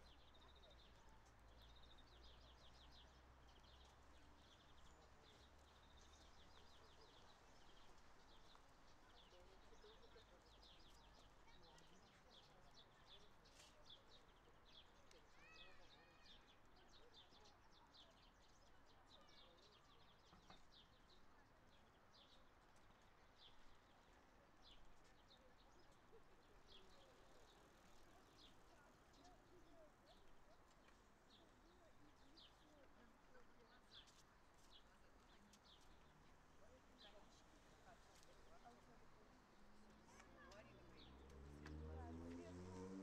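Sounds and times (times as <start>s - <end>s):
faint distant voices: 0.0s - 43.0s
small birds chirping: 0.0s - 43.0s.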